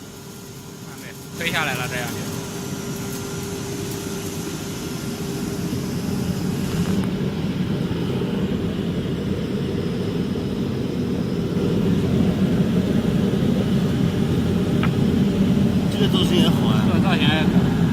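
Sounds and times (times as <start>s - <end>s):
cnc router drone: 0.0s - 17.9s.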